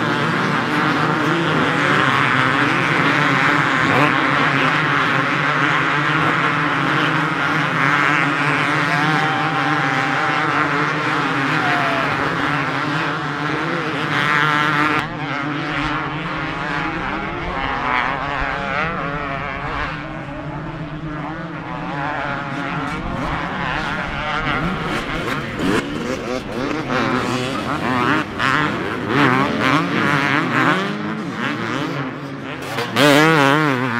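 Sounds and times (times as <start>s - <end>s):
motocross bikes revving: 0.0s - 33.9s.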